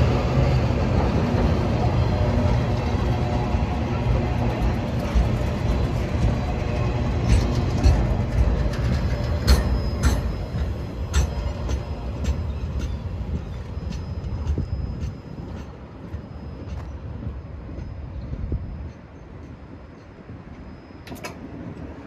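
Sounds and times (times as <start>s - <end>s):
train low rumble: 0.0s - 22.0s
wheels clicking over rail joints: 0.0s - 22.0s.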